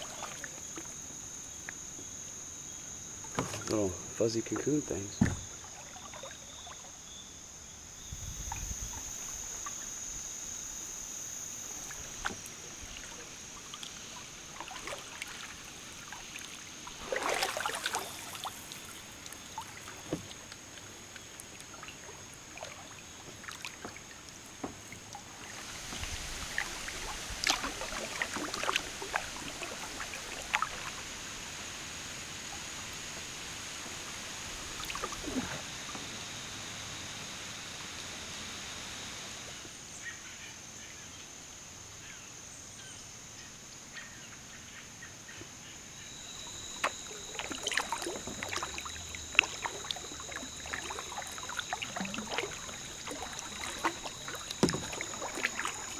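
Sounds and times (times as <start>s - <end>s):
paddle splashing in water: 0.0s - 7.0s, 11.4s - 39.6s, 46.2s - 55.9s
high insect hum: 0.0s - 55.9s.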